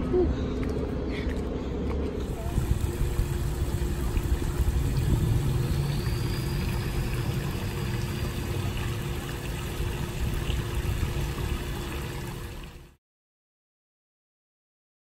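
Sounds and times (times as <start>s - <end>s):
low rumble: 0.0s - 12.9s
constant hum: 0.0s - 13.0s.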